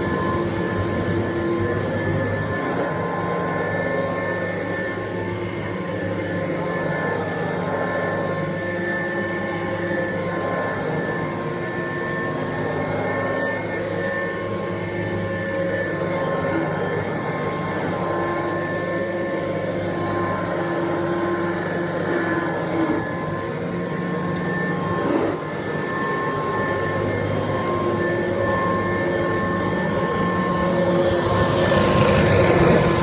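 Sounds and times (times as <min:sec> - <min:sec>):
upright vacuum cleaner running: 0:00.0 - 0:33.0.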